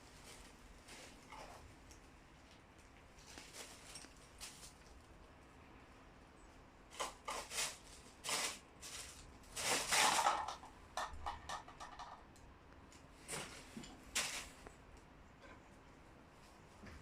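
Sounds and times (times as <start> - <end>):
cats scampering and scuffling: 0.0 - 17.0.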